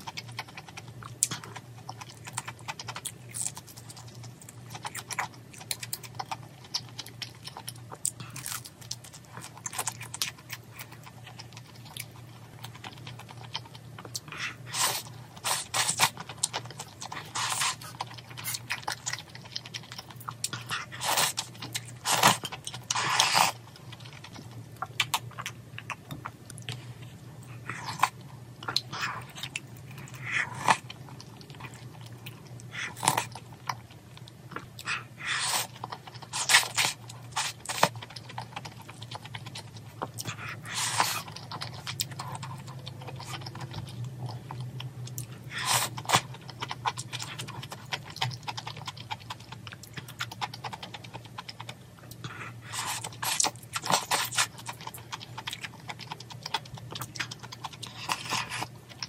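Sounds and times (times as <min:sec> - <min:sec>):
chewing: 0:00.0 - 0:59.0.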